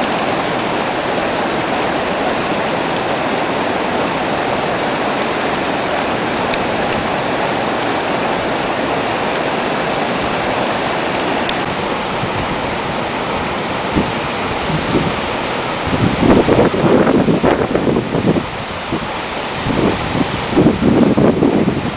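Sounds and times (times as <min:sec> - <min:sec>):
river water rushing over rocks: 0:00.0 - 0:21.9.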